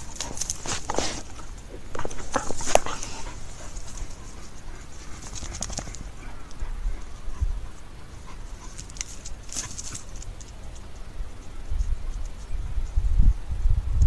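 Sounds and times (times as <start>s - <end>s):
dogs sniffing and panting: 0.0s - 12.6s
rustling dry grass: 0.0s - 13.2s.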